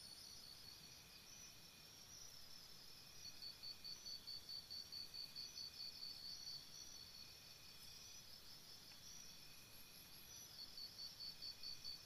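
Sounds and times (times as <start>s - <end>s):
insect high pulsed chirp: 0.0s - 12.0s
insect trills: 0.0s - 12.0s.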